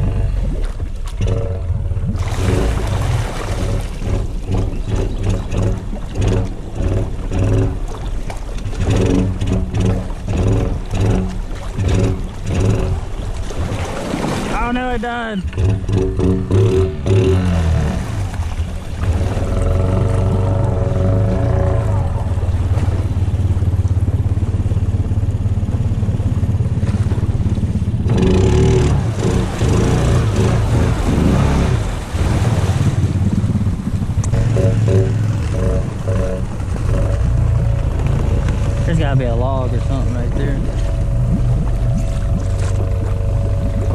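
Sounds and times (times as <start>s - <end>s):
atv engine running: 0.0s - 13.8s, 15.4s - 43.9s
water sloshing and splashing: 0.0s - 43.9s.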